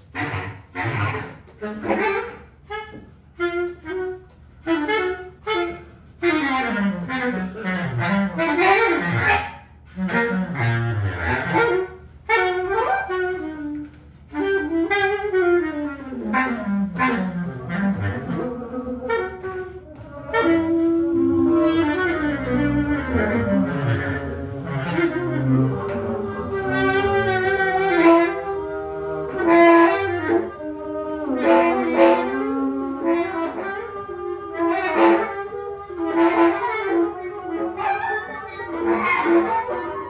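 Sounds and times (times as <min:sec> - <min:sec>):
bass clarinet improvising: 0:00.0 - 0:40.0.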